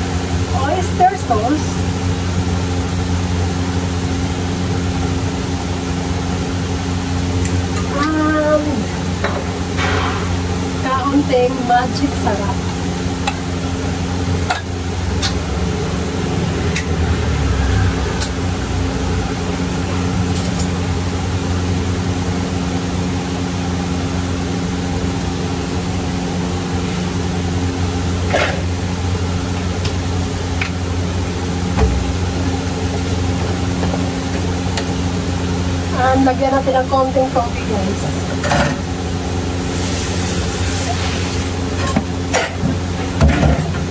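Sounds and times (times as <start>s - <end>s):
low mechanical hum: 0.0s - 43.9s.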